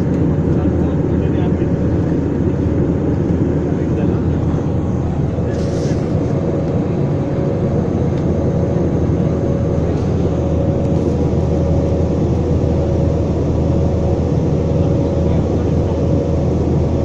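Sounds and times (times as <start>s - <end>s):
airflow noise: 0.0s - 17.0s
constant hum tone: 0.0s - 17.0s
jet engines roaring: 0.0s - 17.0s.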